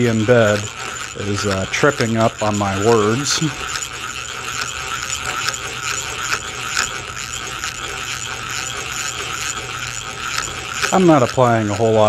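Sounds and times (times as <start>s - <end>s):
faint regular clicking: 0.0s - 12.0s
hand drill gears whirring: 0.0s - 12.0s.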